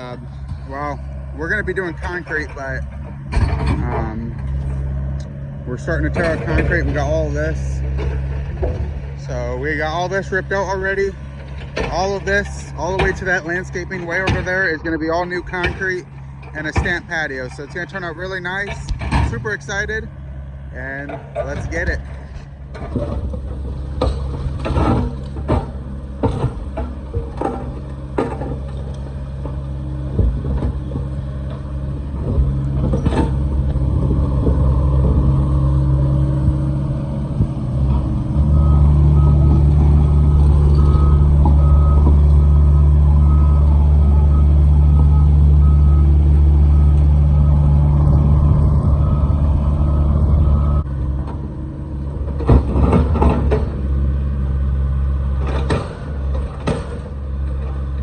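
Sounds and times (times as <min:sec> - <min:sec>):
heavy machine engine running: 0:00.0 - 0:58.0.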